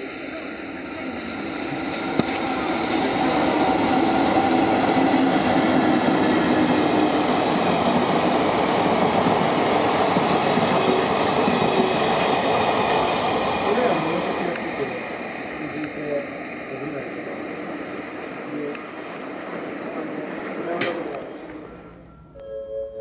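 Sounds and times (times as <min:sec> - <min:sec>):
train passing close by: 0:00.0 - 0:23.0.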